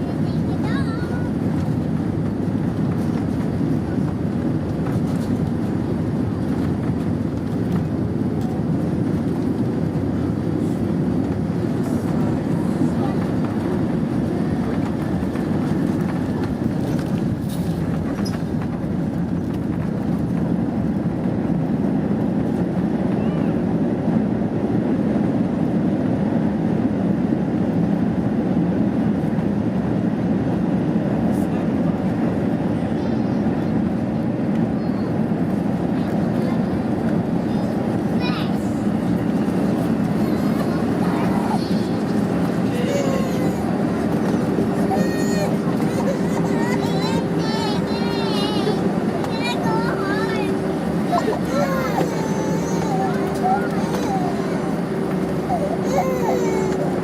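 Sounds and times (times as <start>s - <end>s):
aircraft engines and airflow rumble: 0.0s - 57.0s.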